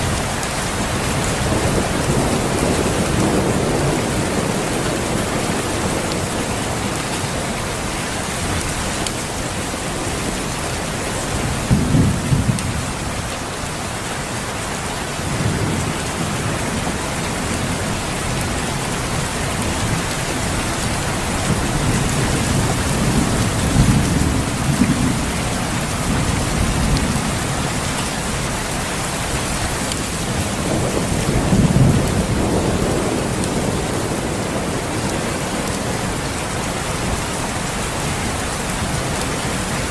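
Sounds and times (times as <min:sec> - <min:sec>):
steady rain falling: 0:00.0 - 0:39.9
thunder rumbling: 0:00.1 - 0:13.6, 0:15.1 - 0:39.9.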